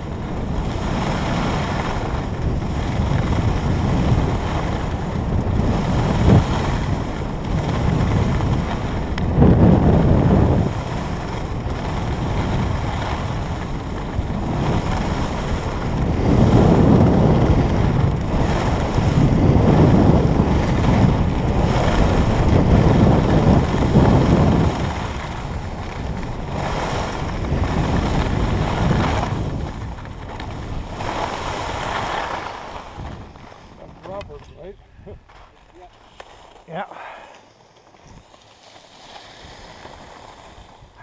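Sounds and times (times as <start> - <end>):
wind rushing over microphone: 0.0 - 35.4, 38.0 - 41.0
skis scraping over packed snow: 0.0 - 41.0.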